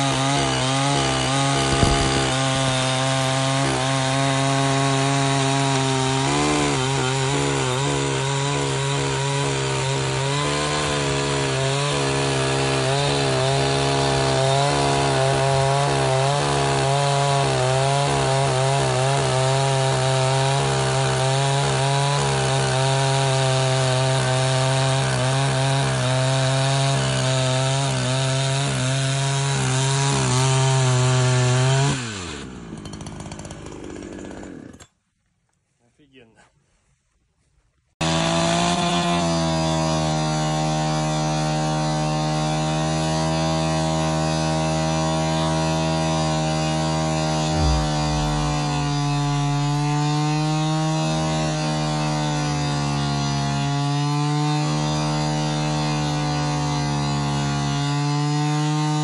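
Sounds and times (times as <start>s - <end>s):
chainsaw cutting log: 0.0s - 35.0s, 38.0s - 59.0s.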